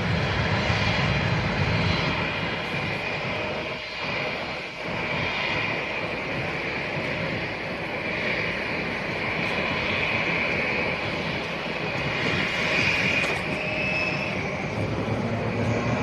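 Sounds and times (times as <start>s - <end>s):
airliner engines whining: 0.0s - 16.0s.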